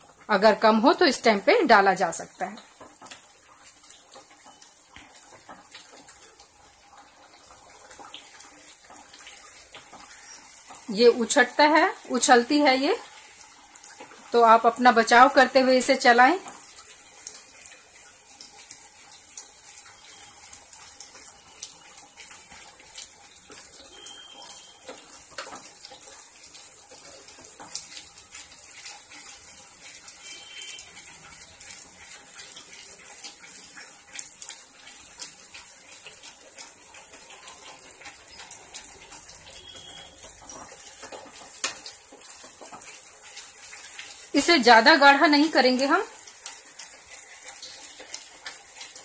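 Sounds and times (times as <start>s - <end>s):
thick porridge bubbling and popping: 0.0s - 49.0s.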